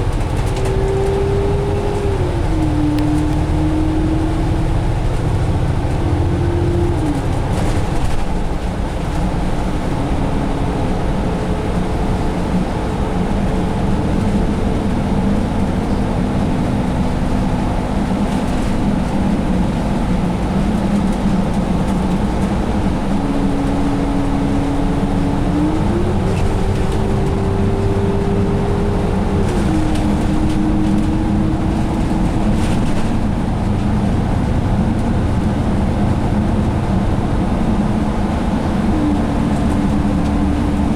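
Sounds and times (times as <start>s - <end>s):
bus diesel engine drone: 0.0s - 40.9s
drivetrain whine: 0.0s - 40.9s
road rumble: 0.0s - 40.9s.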